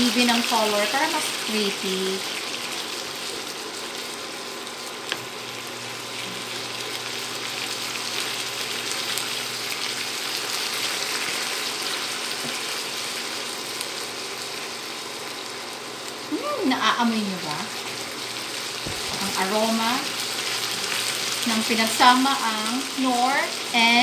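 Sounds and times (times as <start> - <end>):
pork sizzling in oil: 0.0 - 24.0.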